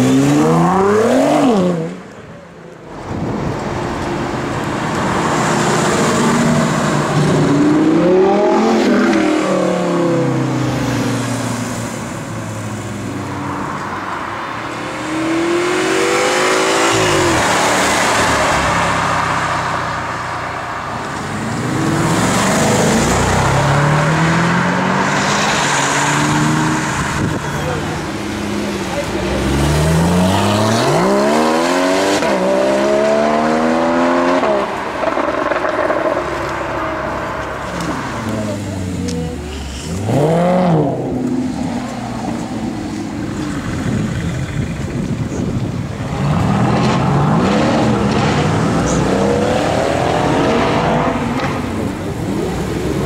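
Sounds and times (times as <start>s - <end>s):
sports car engines accelerating: 0.0s - 53.0s.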